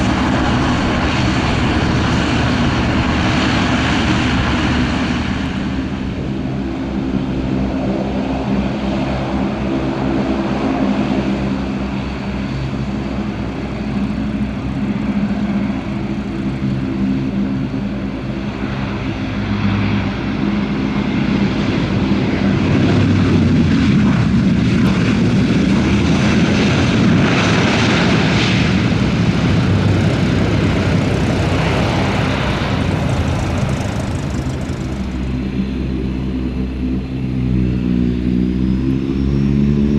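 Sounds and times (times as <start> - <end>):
propeller rush: 0.0 - 39.9
turboprop engines droning: 0.0 - 39.9.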